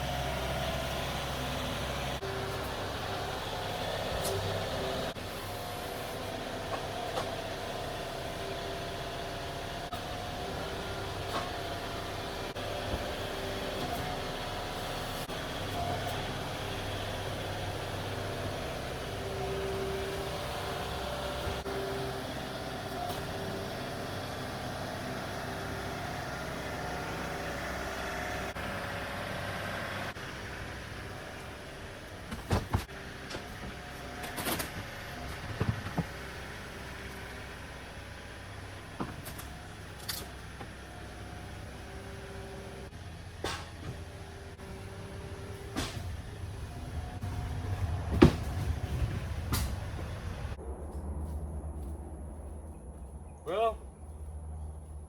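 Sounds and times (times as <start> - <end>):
machine engine under load: 0.0 - 50.7.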